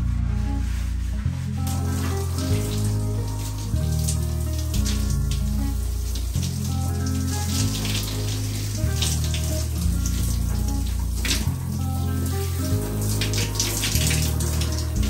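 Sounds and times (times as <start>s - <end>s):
music with deep bass line: 0.0s - 15.0s
running water splashing: 1.6s - 15.0s.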